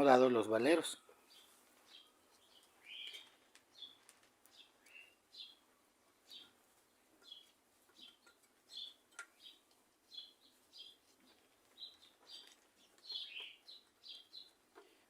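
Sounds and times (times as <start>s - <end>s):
faint bird chirping: 0.9s - 15.0s.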